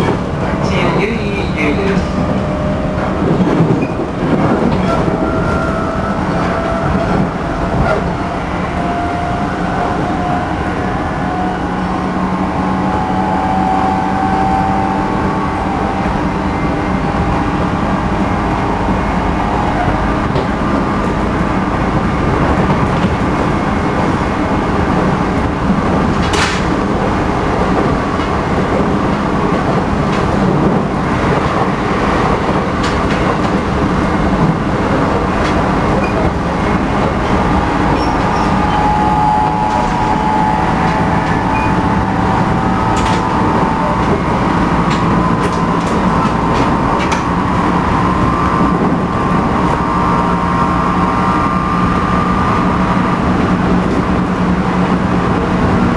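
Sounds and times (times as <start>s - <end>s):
rail rumble: 0.0s - 55.9s
train motor whine: 1.8s - 28.4s, 29.2s - 55.9s.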